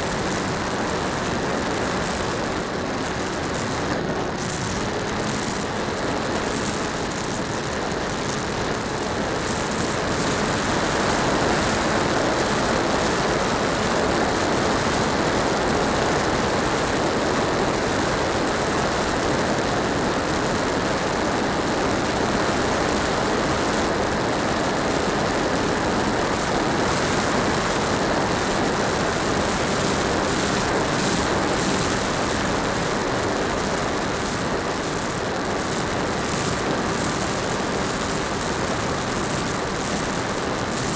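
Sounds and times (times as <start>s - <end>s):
electric motor and propeller running: 0.0s - 40.9s
rushing wind: 0.0s - 40.9s.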